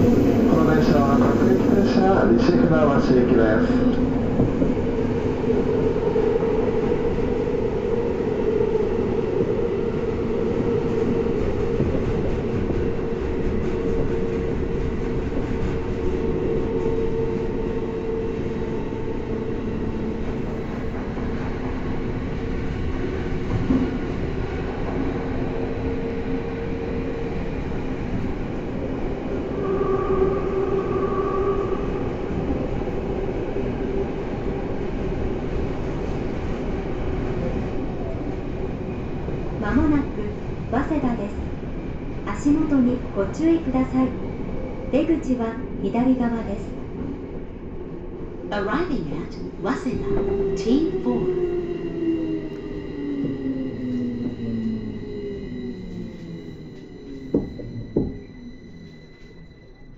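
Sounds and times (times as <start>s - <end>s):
wheels rumbling on rail: 0.0s - 44.4s, 48.6s - 59.9s.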